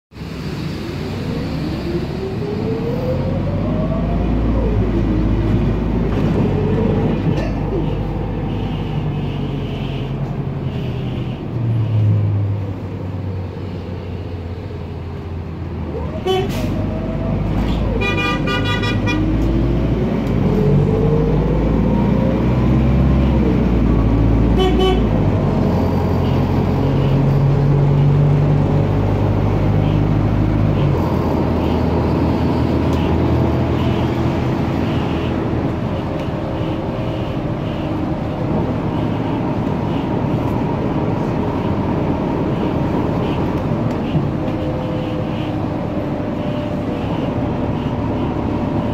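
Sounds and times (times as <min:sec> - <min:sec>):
diesel bus engine droning: 0:00.1 - 0:48.9.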